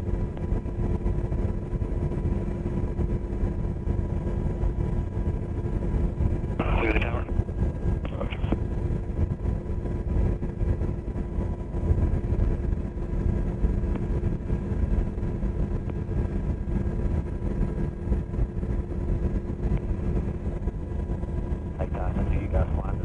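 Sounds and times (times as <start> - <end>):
constant hum: 0.0 - 23.0
helicopter rotor and engine rumble: 0.0 - 23.0.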